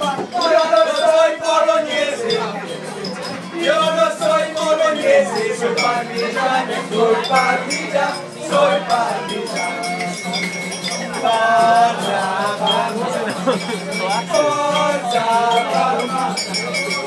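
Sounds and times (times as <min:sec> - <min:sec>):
chatter and voices: 0:00.0 - 0:17.0
men singing along to music: 0:00.0 - 0:17.0.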